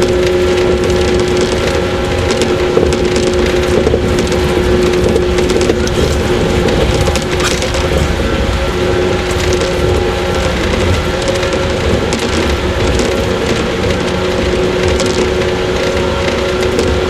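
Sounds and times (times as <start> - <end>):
train running gear drone: 0.0 - 17.0
train wheels rumbling on rails: 0.0 - 17.0.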